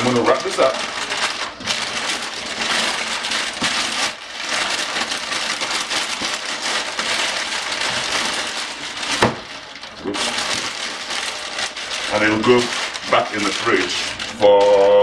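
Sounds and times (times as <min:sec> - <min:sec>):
kitchen wrap crinkling: 0:00.0 - 0:15.0.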